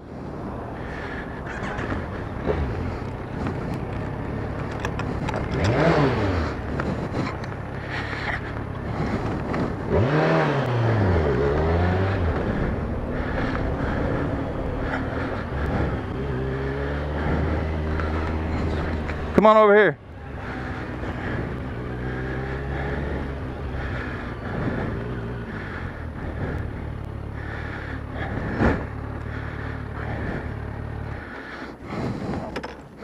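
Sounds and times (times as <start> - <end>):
cars driving past: 0.0 - 33.0
tyre noise: 0.3 - 33.0.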